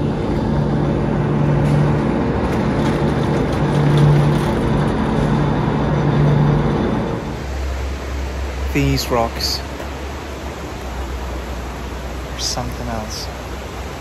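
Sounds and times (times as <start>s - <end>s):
cable car mechanical hum: 0.0s - 14.0s.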